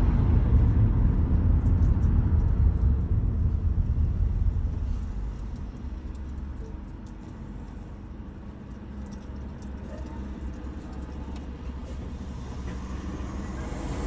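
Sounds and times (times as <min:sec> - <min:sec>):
car engine idling hum: 0:00.0 - 0:14.0
car road and engine rumble: 0:00.0 - 0:14.0.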